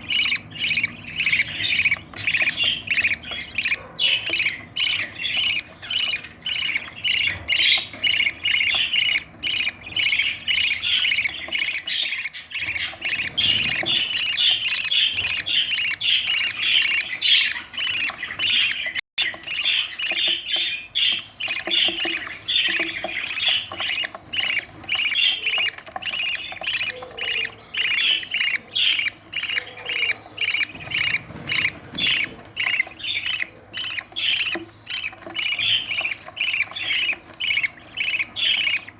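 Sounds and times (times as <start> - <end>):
bird chicks squawking: 0.0 - 38.9.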